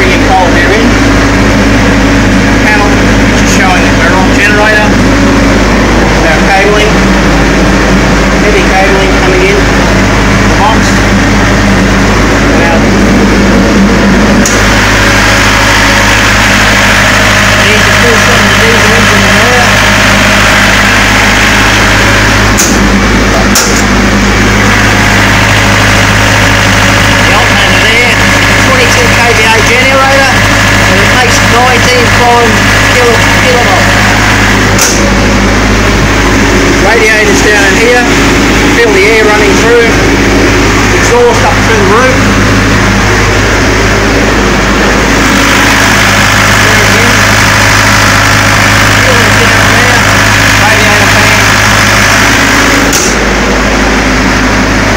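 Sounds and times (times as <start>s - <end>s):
diesel generator engine humming: 0.0s - 54.9s.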